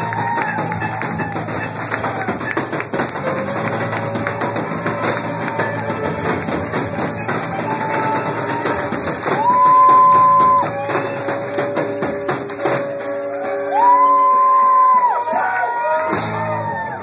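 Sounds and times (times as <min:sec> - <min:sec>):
drum and cymbal hits: 0:00.0 - 0:17.0
live rock band playing: 0:00.0 - 0:17.0.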